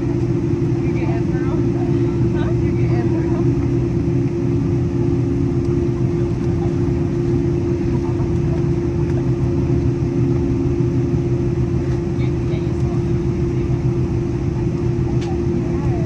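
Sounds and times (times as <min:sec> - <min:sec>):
aircraft cabin engine hum: 0:00.0 - 0:16.0.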